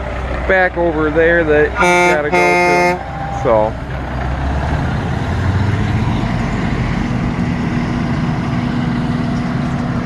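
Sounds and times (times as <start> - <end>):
farm machinery engine rumbling: 0.0 - 10.0.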